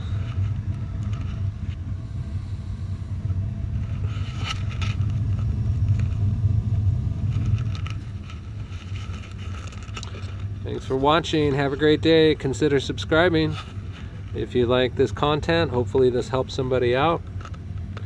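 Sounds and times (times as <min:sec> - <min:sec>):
gas burner low rumble: 0:00.0 - 0:18.0.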